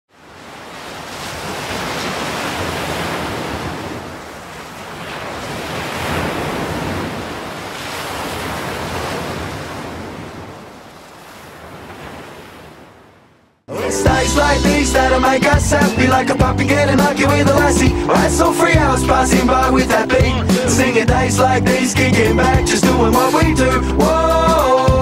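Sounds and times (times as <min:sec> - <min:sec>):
sea waves washing: 0:00.1 - 0:25.0.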